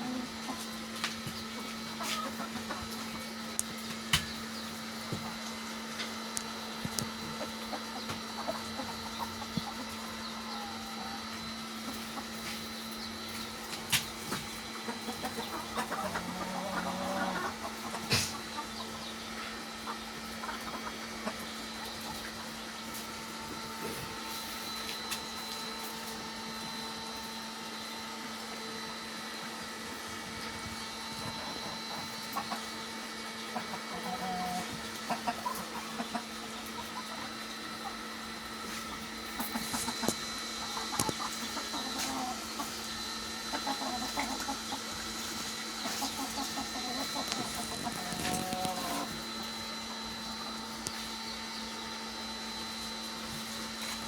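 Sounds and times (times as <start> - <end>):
chickens clucking: 0.0 - 54.0
machine hum: 0.0 - 54.0.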